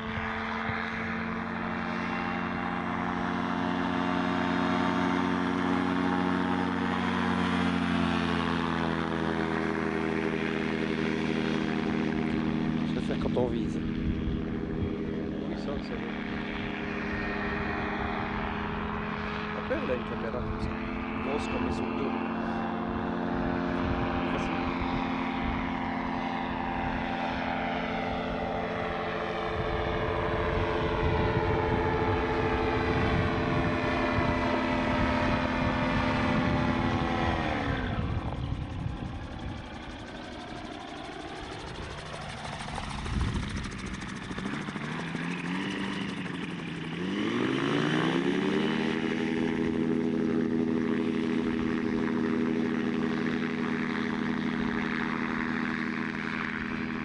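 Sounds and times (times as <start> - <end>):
gyrocopter engine and propeller: 0.0 - 57.0.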